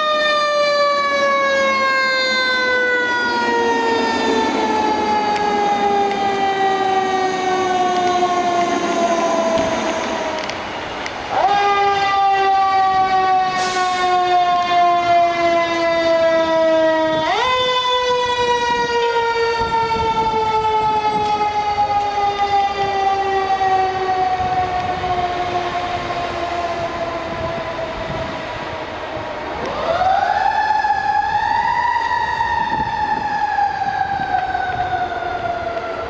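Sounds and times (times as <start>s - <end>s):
mechanical siren whining: 0.0s - 36.0s.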